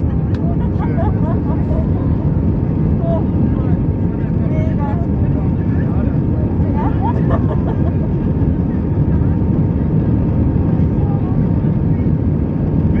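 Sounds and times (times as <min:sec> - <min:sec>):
aircraft engines and airflow rumble: 0:00.0 - 0:13.0
faint voices murmuring: 0:00.0 - 0:13.0.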